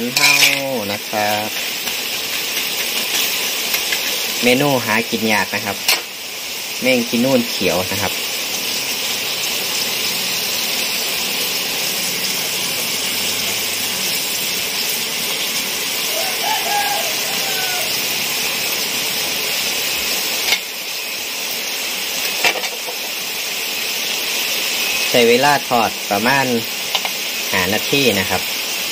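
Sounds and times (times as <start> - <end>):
beetles sizzling in a wok: 0.0 - 28.9.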